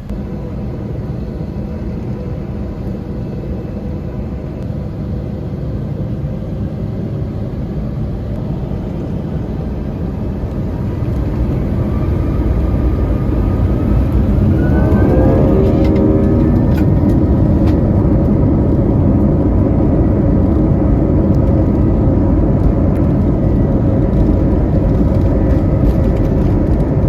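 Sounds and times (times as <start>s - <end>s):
aircraft cabin engine rumble: 0.0s - 27.0s
faint engine whine: 0.0s - 27.0s.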